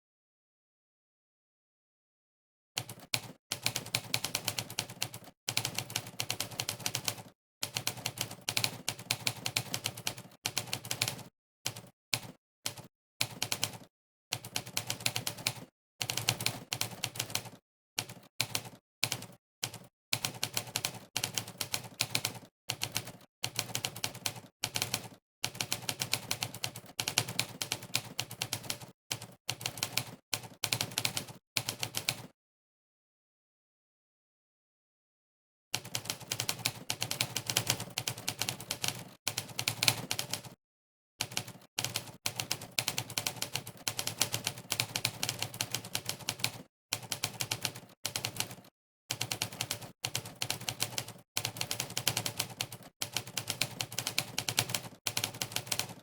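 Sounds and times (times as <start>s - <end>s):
typewriter keystroke clacks: 2.8s - 32.3s, 35.8s - 40.6s, 41.2s - 56.0s.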